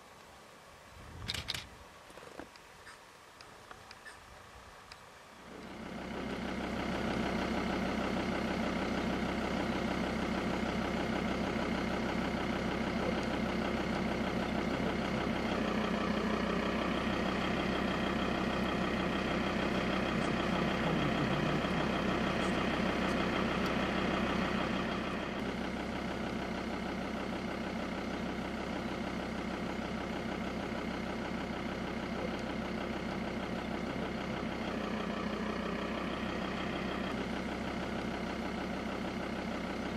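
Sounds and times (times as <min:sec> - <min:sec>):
vehicle engine idling: 0:02.5 - 0:39.9.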